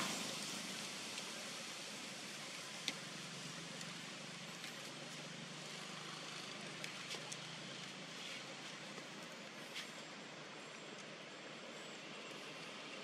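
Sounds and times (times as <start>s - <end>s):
outdoor background hum: 0.0s - 13.0s.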